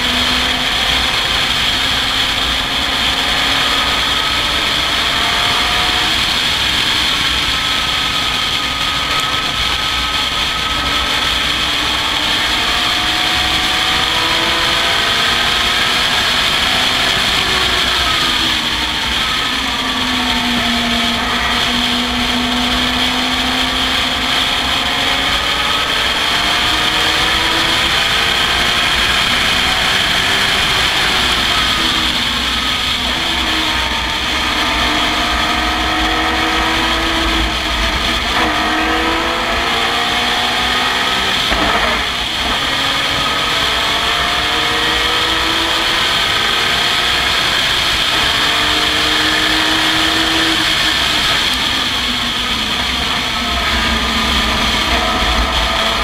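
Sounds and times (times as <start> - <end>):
racing car engine running hard: 0.0 - 56.0.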